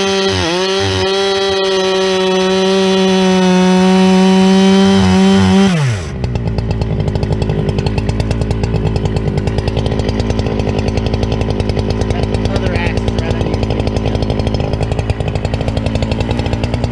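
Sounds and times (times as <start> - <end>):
chainsaw running then idling: 0.0 - 16.9.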